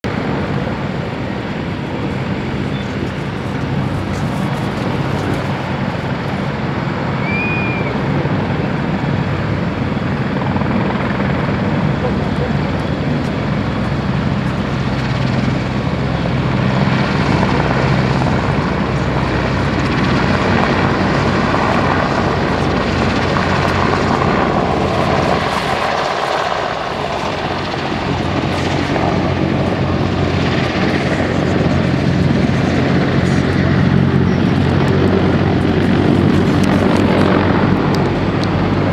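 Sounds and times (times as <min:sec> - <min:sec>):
helicopter engines and rotor: 0:00.0 - 0:38.9.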